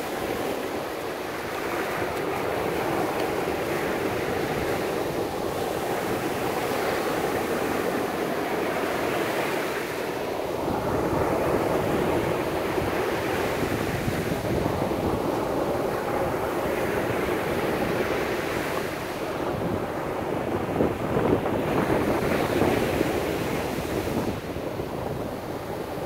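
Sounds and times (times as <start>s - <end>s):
small waves on sandy shore: 0.0s - 26.0s
wind rumbling on microphone: 0.0s - 26.0s.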